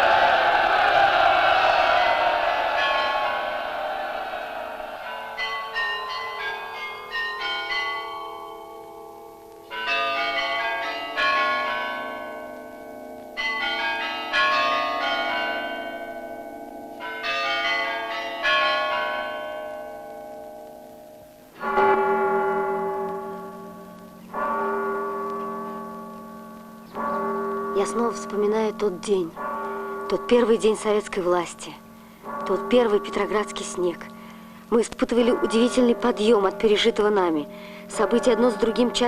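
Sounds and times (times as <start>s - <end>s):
many bells clashing: 0.0s - 21.0s, 21.6s - 39.0s
small bells ringing: 2.1s - 39.0s.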